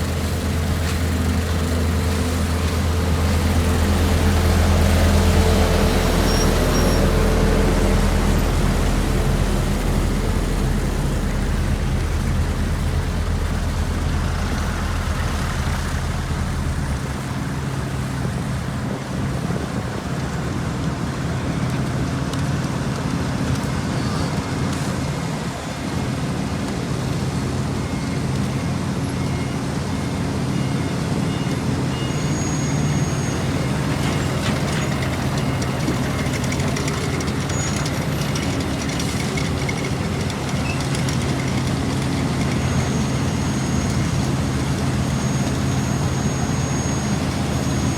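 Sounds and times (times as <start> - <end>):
deep low engine drone: 0.0 - 47.9
heavy diesel engines running: 0.0 - 47.9.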